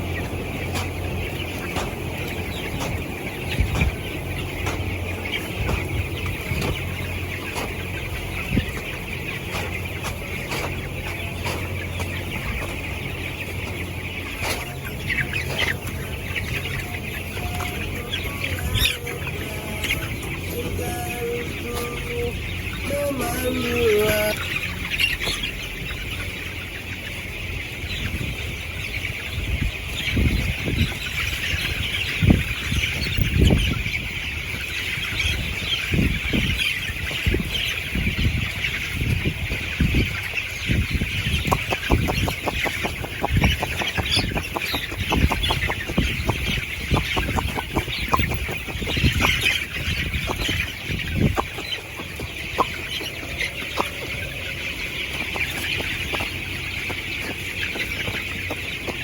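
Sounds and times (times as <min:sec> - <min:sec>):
chickens peeping and clucking: 0:00.0 - 0:59.0.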